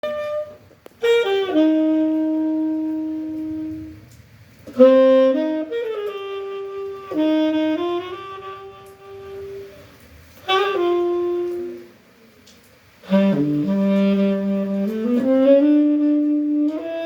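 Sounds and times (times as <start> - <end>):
saxophone playing slow jazzy melody: 0.0 - 17.0.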